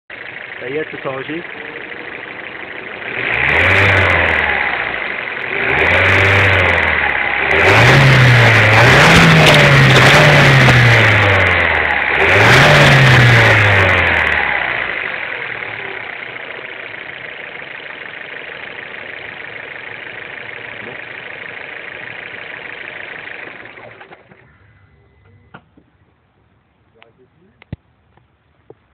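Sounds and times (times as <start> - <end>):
car engine revving and idling: 0.1 - 26.1.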